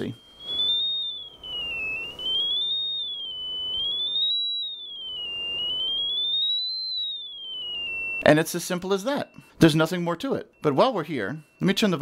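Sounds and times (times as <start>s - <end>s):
gliding sine-wave tone: 0.0s - 12.0s.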